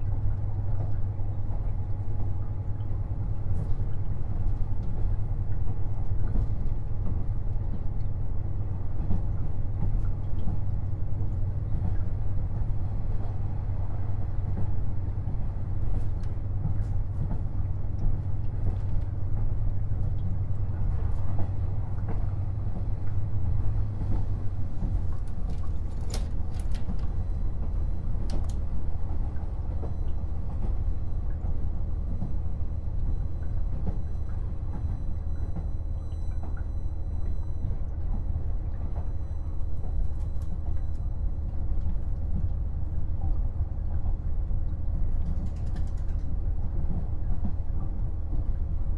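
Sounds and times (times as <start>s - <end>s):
wheels rumbling on rail: 0.0s - 48.9s.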